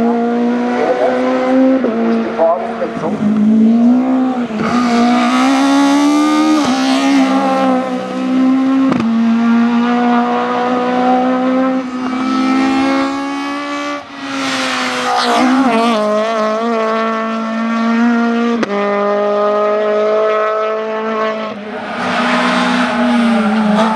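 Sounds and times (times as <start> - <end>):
racing car engine at high revs: 0.0 - 23.9.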